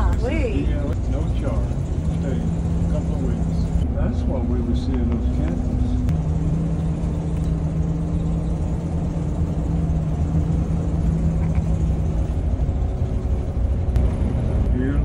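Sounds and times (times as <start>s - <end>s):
engine and road noise rumble: 0.0s - 15.0s
steady drone: 0.0s - 15.0s.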